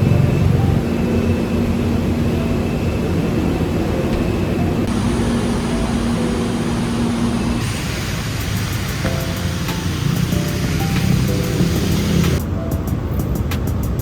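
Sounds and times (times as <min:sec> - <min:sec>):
faint steady hum: 0:00.0 - 0:12.4
vehicle running rumble: 0:00.0 - 0:14.0.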